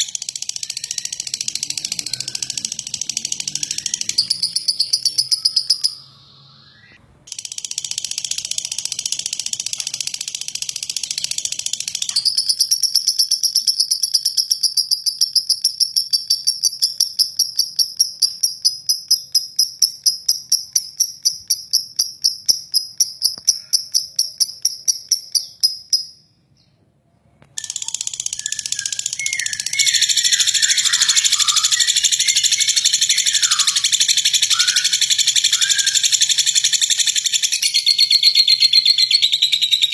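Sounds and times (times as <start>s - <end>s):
bird rattling trill: 0.0s - 6.0s, 7.3s - 26.1s, 27.6s - 39.9s
bird chirps: 0.0s - 39.9s.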